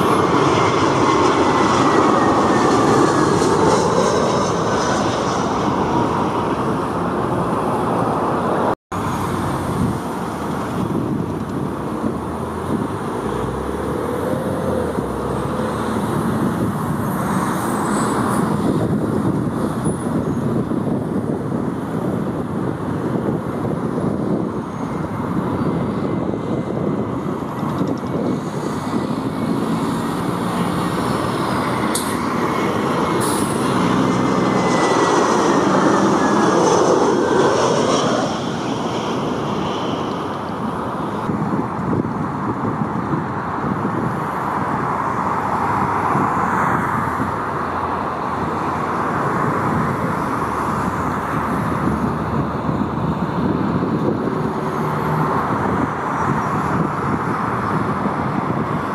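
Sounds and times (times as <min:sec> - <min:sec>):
jet airliner passing: 0:00.0 - 0:58.9.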